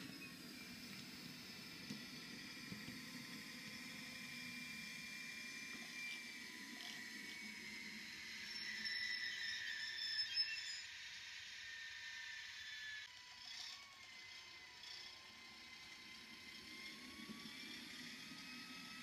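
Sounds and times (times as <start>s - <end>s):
model train motor whirring: 0.0s - 19.0s.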